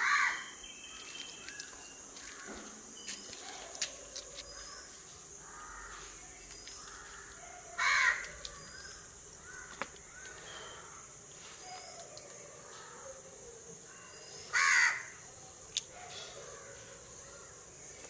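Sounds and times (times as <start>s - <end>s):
faint chirping: 0.0s - 18.0s.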